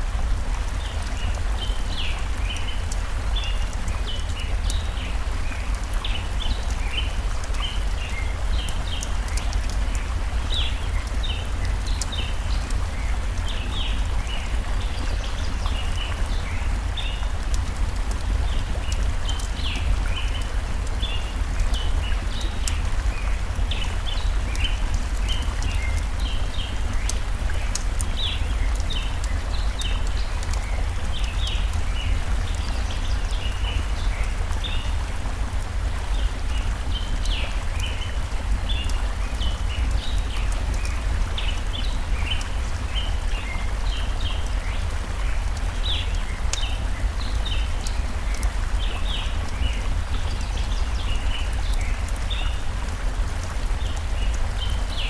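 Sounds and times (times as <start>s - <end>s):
campfire crackling: 0.0s - 55.0s
flowing water: 0.0s - 55.0s.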